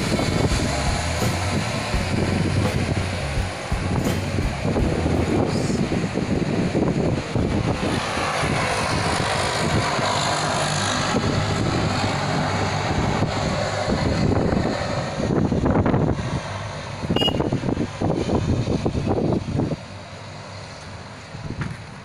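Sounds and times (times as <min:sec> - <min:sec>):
wind buffeting microphone: 0:00.0 - 0:20.1
low engine hum: 0:00.0 - 0:22.0
road noise: 0:00.0 - 0:22.0.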